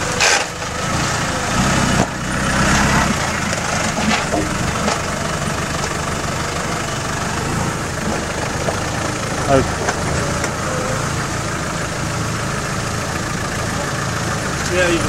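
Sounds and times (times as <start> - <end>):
vehicle engine pulling at low speed: 0.0 - 15.0.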